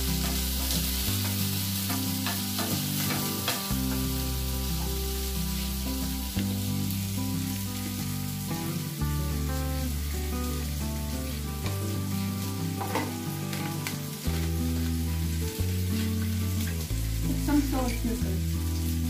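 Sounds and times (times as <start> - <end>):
background music with bass: 0.0 - 19.0
vegetables sizzling in a frying pan: 0.0 - 19.0.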